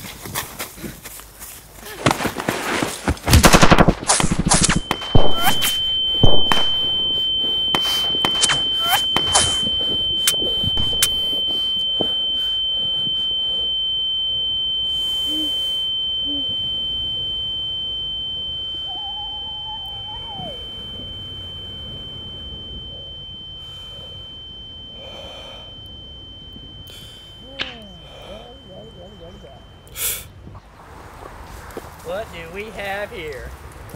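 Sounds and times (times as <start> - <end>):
high-pitched ringing tone: 1.5 - 30.7.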